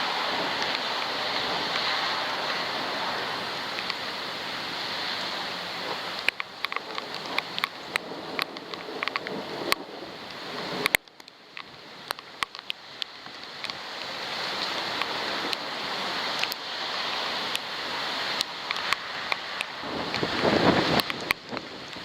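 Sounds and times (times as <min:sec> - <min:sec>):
raindrops ticking on camera housing: 0:00.0 - 0:22.0
wind-driven rain hiss: 0:00.0 - 0:22.0.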